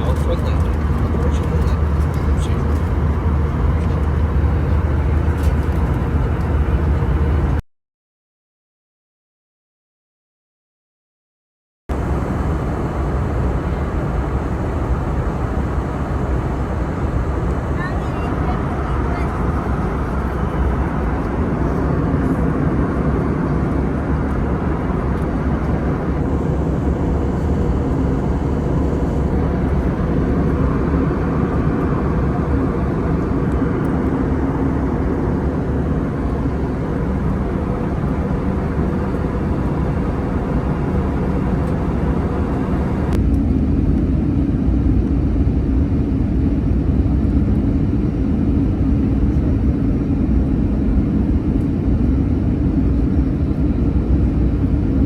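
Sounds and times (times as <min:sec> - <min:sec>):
aircraft cabin engine rumble: 0:00.0 - 0:07.6, 0:11.9 - 0:55.0.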